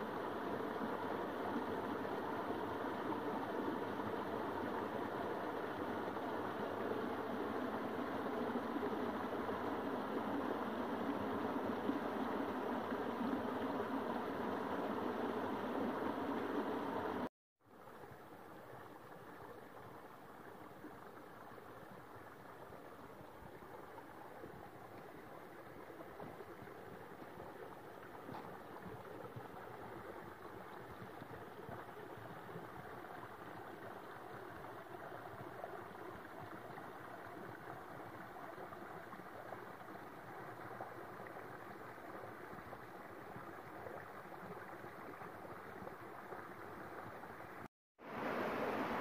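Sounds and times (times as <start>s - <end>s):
creek water rushing: 0.0s - 49.0s.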